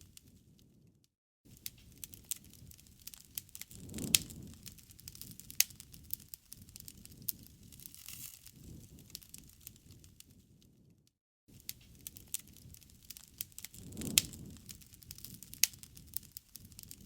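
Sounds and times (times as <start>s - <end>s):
wood fire crackling: 0.0s - 0.8s, 1.5s - 17.0s.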